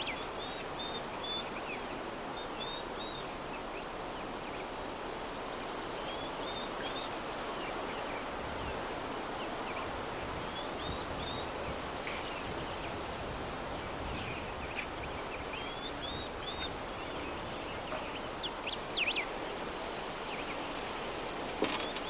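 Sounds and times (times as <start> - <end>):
soft breeze hiss: 0.0 - 22.0.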